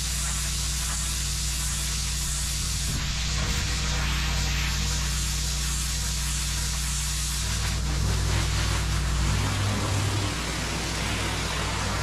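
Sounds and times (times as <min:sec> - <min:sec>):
pressure washer machine humming: 0:00.0 - 0:12.0
pressure washer spray hissing: 0:00.0 - 0:12.0.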